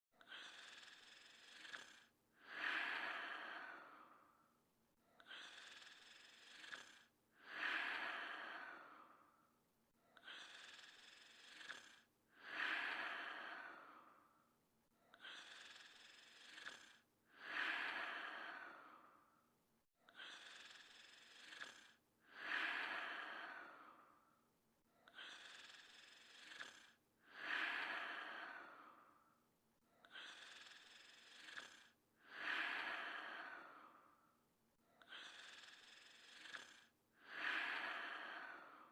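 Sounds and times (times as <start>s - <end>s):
cartoon breathy snoring: 0.1s - 38.9s.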